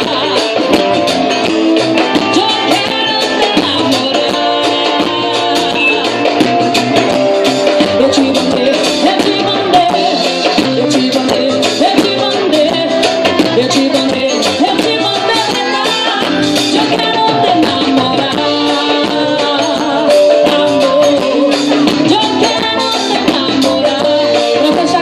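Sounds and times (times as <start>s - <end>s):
person singing: 0.0s - 1.4s, 2.1s - 25.0s
live band playing: 0.0s - 25.0s
percussion groove: 0.0s - 25.0s.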